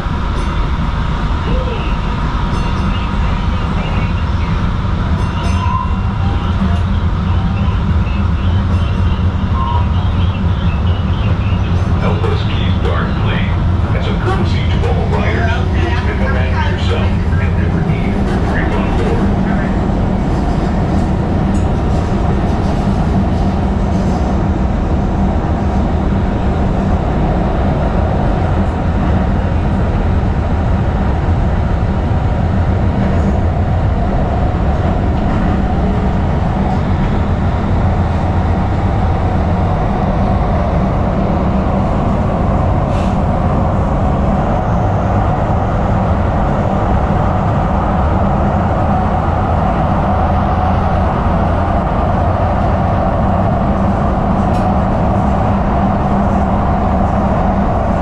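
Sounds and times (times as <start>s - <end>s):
light rail wheels rumbling: 0.0s - 58.0s.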